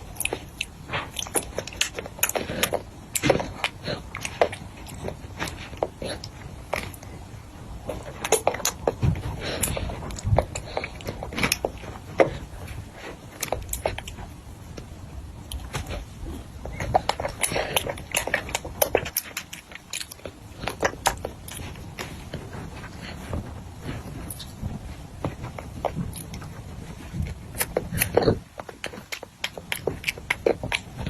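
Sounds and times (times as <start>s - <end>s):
chewing crunchy food: 0.0s - 31.0s.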